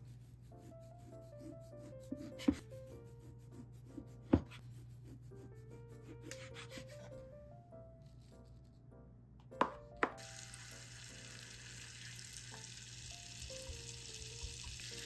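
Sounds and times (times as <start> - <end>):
gentle background music: 0.0 - 15.0.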